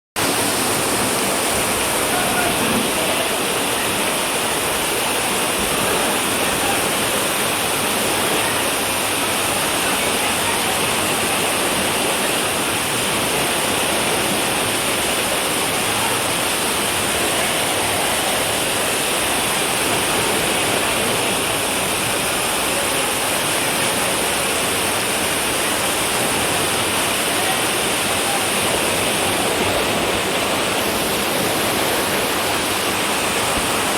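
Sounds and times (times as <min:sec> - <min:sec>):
fast-flowing floodwater rushing: 0:00.2 - 0:33.9.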